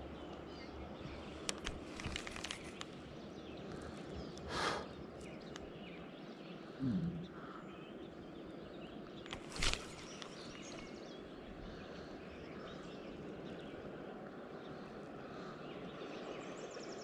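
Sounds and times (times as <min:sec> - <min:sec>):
faint bird chirps: 0:02.0 - 0:17.0.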